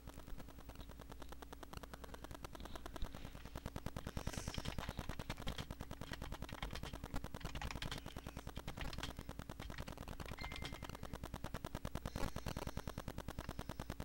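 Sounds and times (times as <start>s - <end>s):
computer keyboard typing: 0.0s - 14.0s
low steady hum: 0.0s - 14.0s.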